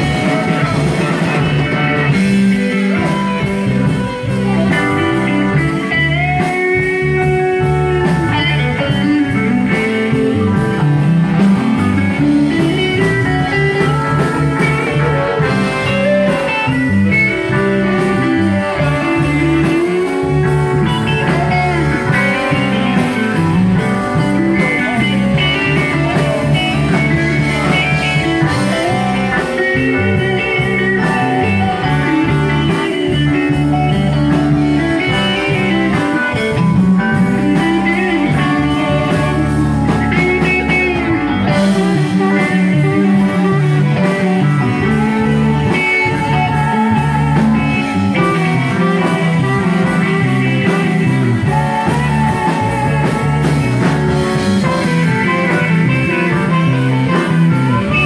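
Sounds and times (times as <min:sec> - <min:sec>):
electric guitar: 0:00.0 - 0:58.0
live band playing blues ballad: 0:00.0 - 0:58.0.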